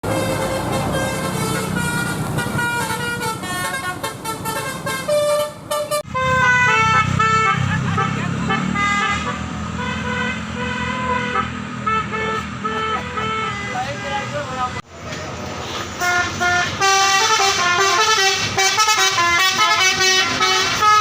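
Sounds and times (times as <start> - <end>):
musical horns honking: 0.0 - 14.8, 16.0 - 21.0
low engine rumble: 0.0 - 21.0.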